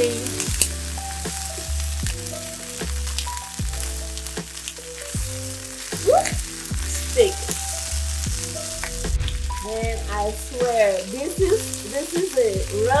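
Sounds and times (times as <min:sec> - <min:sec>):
music with bass and beat: 0:00.0 - 0:13.0
steaks sizzling in frying pan: 0:00.0 - 0:13.0.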